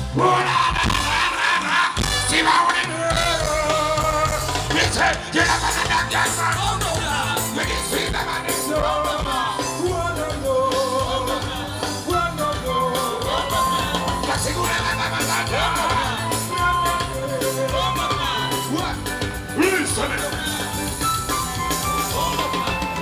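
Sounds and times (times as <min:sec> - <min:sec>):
steady bass line: 0:00.0 - 0:01.3, 0:02.0 - 0:02.5, 0:03.1 - 0:23.0
live band music: 0:00.0 - 0:23.0
man singing: 0:00.0 - 0:23.0.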